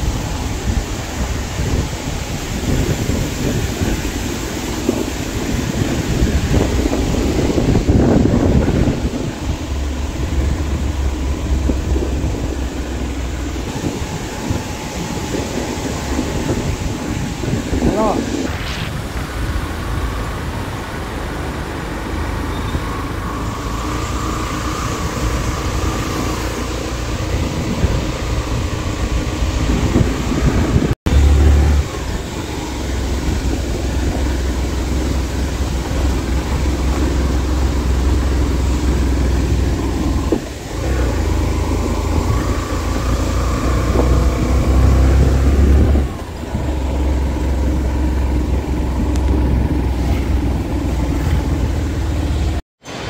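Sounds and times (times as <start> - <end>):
road noise: 0.0 - 53.0
vehicle engine rumbling: 0.0 - 53.0.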